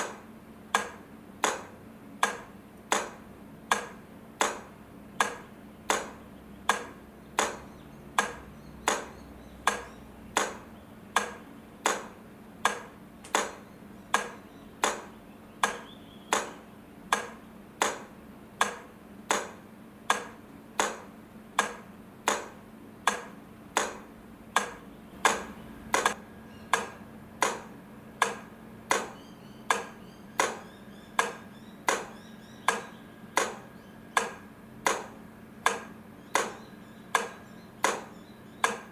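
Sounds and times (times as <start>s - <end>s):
crossing light flasher clicking: 0.0s - 38.9s
faint steady hum: 0.0s - 38.9s.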